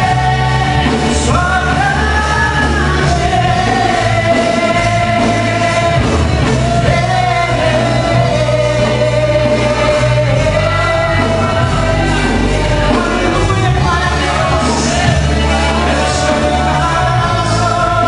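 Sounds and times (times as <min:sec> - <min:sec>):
person singing: 0:00.0 - 0:18.0
rock-style worship band playing: 0:00.0 - 0:18.0.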